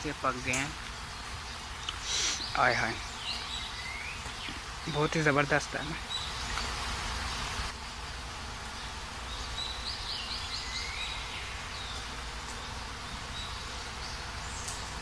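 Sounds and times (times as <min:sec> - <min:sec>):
insect buzz: 0:00.0 - 0:15.0
bird chirps: 0:00.3 - 0:05.4, 0:06.0 - 0:06.8, 0:08.7 - 0:15.0.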